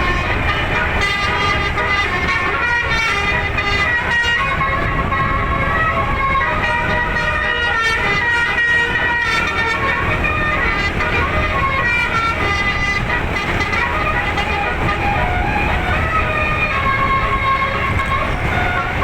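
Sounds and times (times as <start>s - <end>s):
musical air horn tune: 0.0s - 19.0s.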